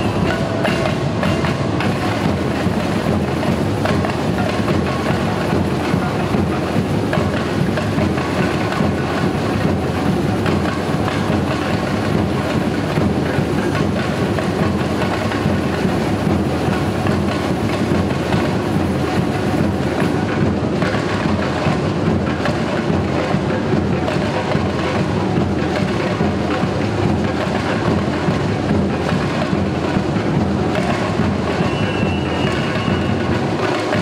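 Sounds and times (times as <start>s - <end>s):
bass drums: 0.0s - 34.0s
samba drum ensemble: 0.0s - 34.0s.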